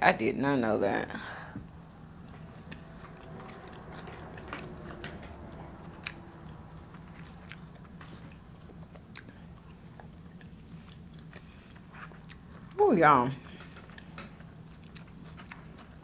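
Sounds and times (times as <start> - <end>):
low steady hum: 0.0 - 16.0
person chewing: 1.9 - 12.8, 13.5 - 16.0.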